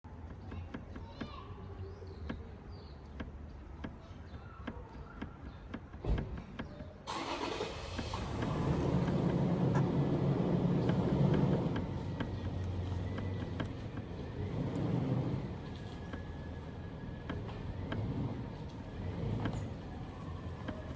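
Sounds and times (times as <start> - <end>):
car cabin road noise: 0.1 - 20.9.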